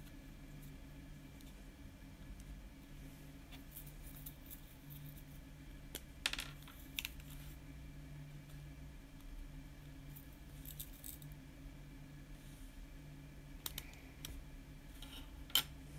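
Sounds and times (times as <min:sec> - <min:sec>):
faint low hum: 0:00.0 - 0:15.9.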